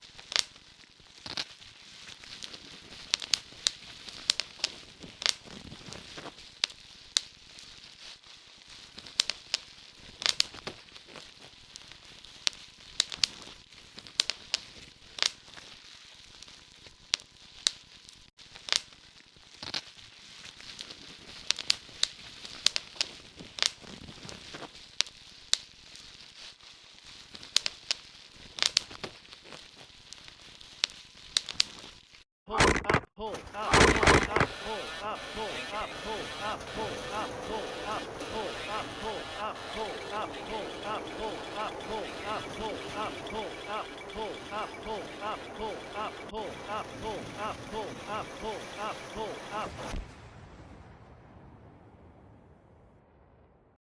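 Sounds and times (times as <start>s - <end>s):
campfire crackling: 0.0s - 52.3s.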